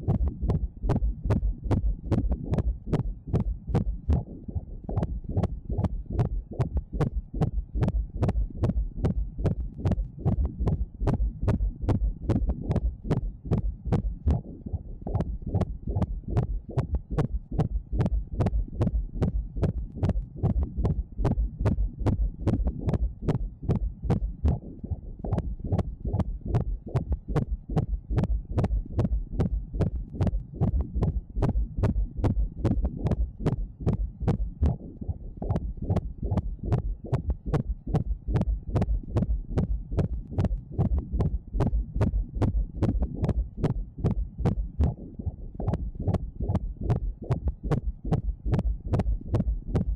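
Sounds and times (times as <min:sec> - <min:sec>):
fetal heartbeat doppler pulsing: 0:00.0 - 0:49.9.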